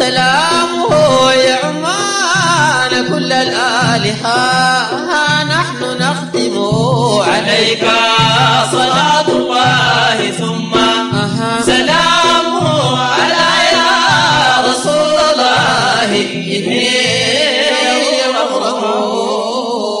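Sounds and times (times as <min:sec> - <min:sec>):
low drum beat: 0:00.0 - 0:17.9
men singing in chorus: 0:00.0 - 0:20.0.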